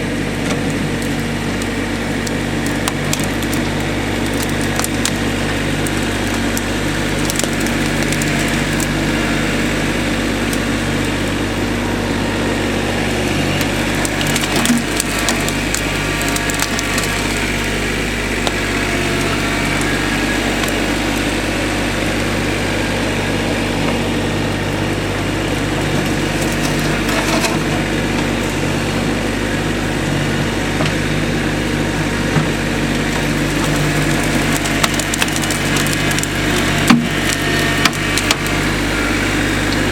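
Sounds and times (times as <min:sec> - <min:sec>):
engine running: 0:00.0 - 0:39.9
wood cracking and splintering: 0:00.0 - 0:39.9.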